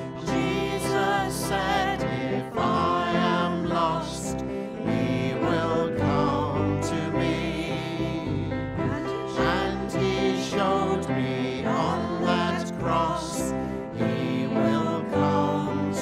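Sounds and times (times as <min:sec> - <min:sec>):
people singing worship song: 0:00.0 - 0:16.0.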